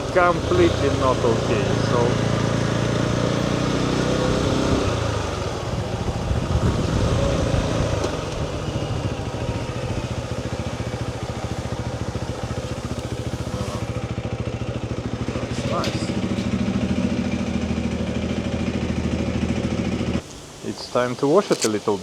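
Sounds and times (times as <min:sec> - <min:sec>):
motorcycle engine running: 0:00.0 - 0:20.3.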